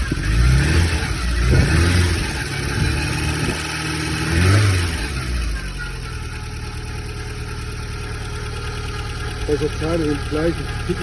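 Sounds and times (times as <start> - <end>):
car engine revving: 0.0 - 11.0
engine whine: 0.0 - 11.0.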